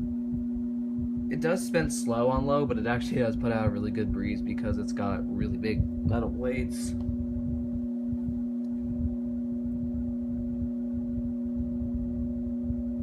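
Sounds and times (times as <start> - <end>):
box fan running: 0.0 - 13.0
fan hum: 0.0 - 13.0.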